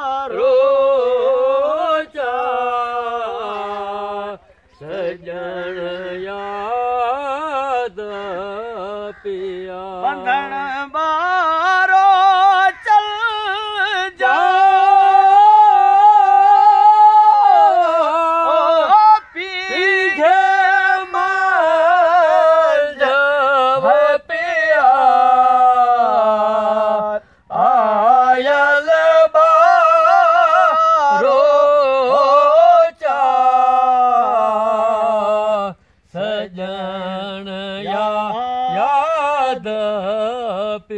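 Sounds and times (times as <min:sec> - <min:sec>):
man singing folk song: 0:00.0 - 0:40.9.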